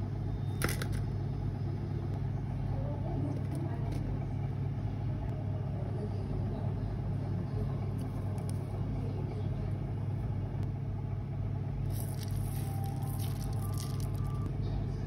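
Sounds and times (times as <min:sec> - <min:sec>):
low machine hum with rumble: 0:00.0 - 0:15.0.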